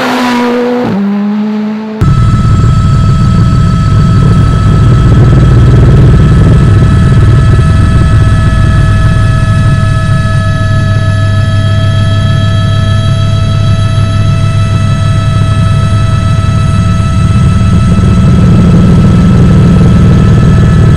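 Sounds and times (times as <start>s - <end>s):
constant high whine: 2.0s - 20.9s
engine-like rumble: 2.0s - 20.9s.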